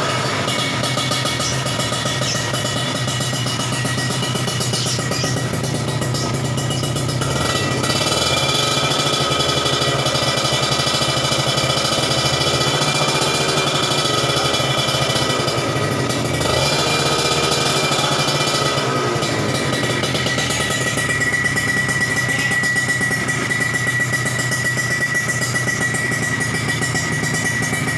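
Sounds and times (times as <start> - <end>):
two-stroke motorcycle engine: 0.0 - 27.9.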